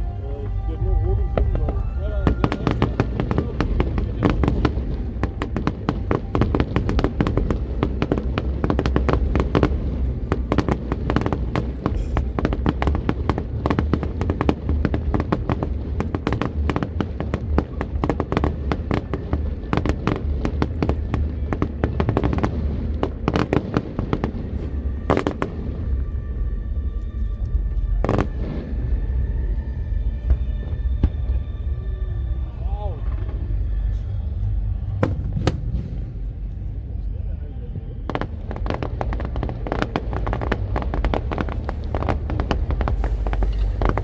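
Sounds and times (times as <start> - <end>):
deep rumble: 0.0 - 44.0
fireworks bangs and crackles: 0.2 - 31.7, 33.0 - 44.0.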